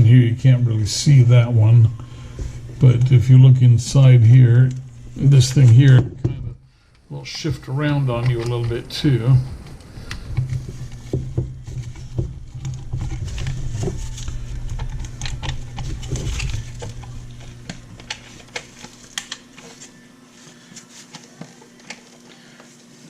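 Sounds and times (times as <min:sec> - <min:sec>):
low hum: 0:00.0 - 0:20.3.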